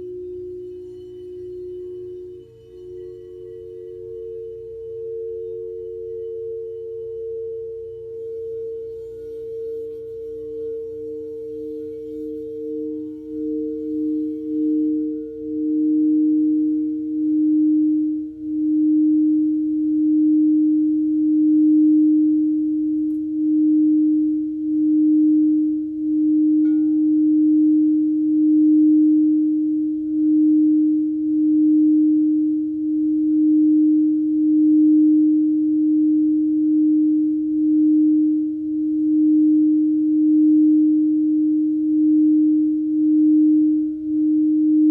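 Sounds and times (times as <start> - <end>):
singing bowls ringing: 0.0 - 44.9.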